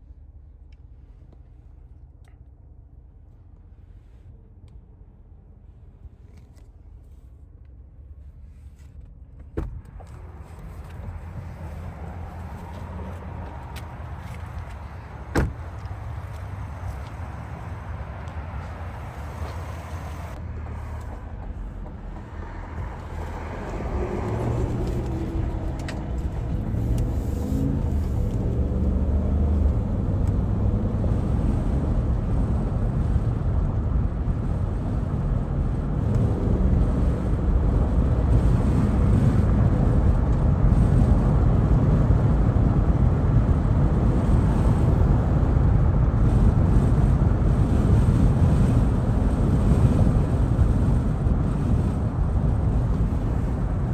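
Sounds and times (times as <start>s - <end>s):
tyre and road noise: 0.8s - 53.9s
car engine accelerating: 9.8s - 53.9s.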